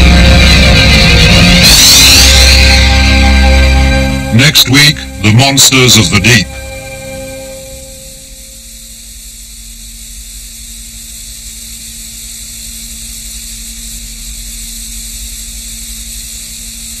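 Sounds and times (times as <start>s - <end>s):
low even hum: 0.0s - 17.0s
steady tape hiss: 0.0s - 17.0s.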